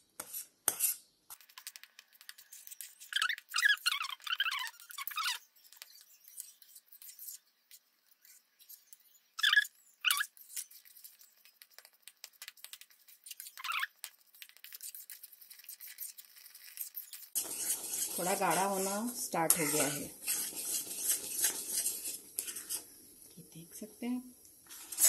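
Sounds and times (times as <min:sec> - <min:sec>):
spatula scraping and squeaking on pan: 0:00.2 - 0:23.0, 0:24.7 - 0:25.0.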